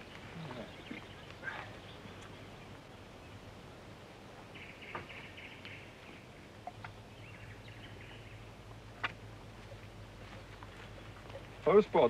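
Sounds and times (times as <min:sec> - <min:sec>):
small birds twittering: 0:00.0 - 0:12.0.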